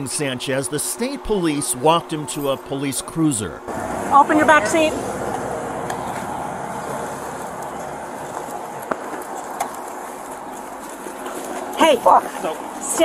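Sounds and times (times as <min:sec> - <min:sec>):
wind: 0:00.0 - 0:13.0
highway traffic: 0:01.3 - 0:13.0.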